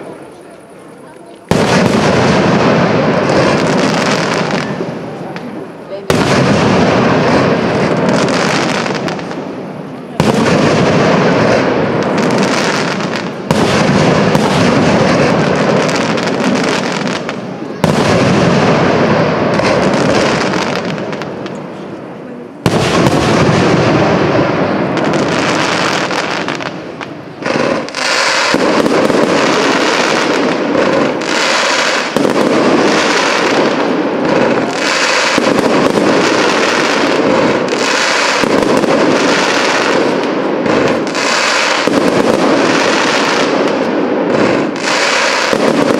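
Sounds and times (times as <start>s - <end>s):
firework pops and crackles: 0.0s - 21.9s, 22.6s - 45.9s.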